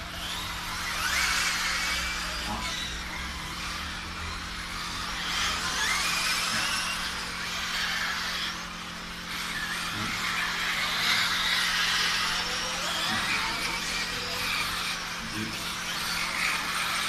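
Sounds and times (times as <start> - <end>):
model car motors whining: 0.0 - 17.0.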